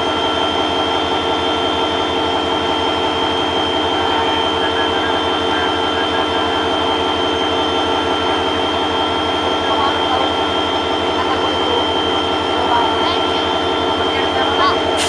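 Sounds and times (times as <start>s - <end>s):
diesel locomotive engine running: 0.0s - 15.0s
high whine: 0.0s - 15.0s.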